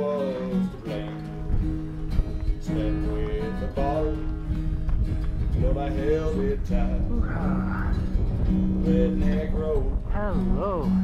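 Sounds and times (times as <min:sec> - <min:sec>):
sliding guitar lead melody: 0:00.0 - 0:11.0
strummed acoustic guitar: 0:00.0 - 0:11.0.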